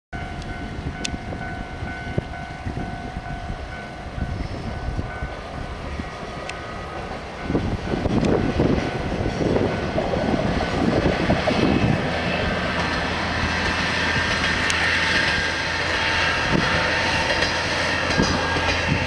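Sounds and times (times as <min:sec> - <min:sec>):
steady high tone: 0:00.2 - 0:19.0.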